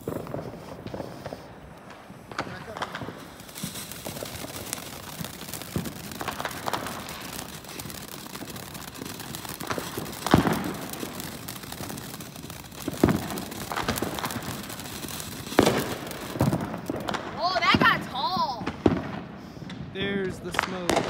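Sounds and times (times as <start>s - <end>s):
firework fountain hissing and crackling: 0.0s - 21.0s.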